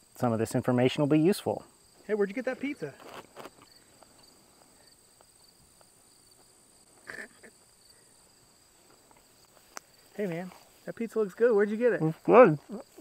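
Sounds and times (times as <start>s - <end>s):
insect chirping trill: 0.0s - 13.0s.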